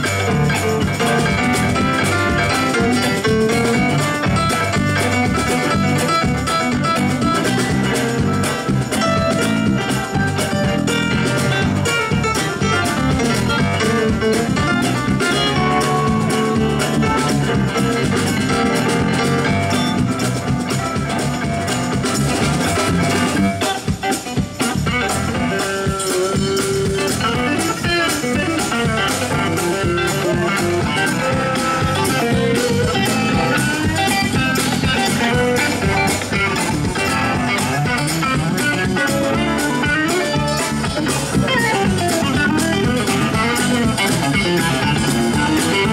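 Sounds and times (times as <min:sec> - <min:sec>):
electric guitar: 0:00.0 - 0:45.9
stage keyboard through amplifier: 0:00.0 - 0:45.9.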